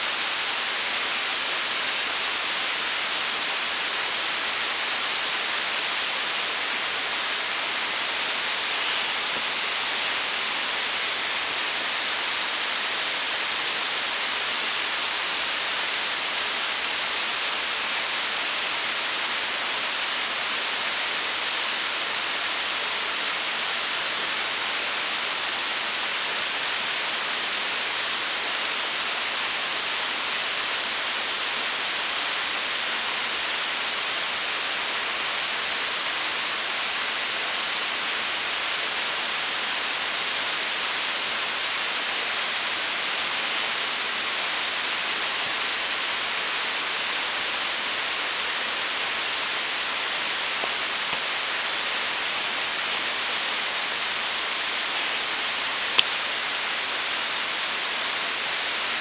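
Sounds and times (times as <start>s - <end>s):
small waterfall: 0.0s - 59.0s.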